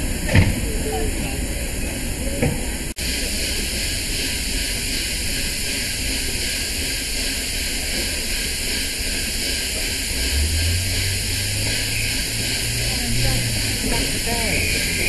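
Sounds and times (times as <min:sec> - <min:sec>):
low rumble: 0:00.0 - 0:15.0
steam hissing from locomotive: 0:00.0 - 0:15.0.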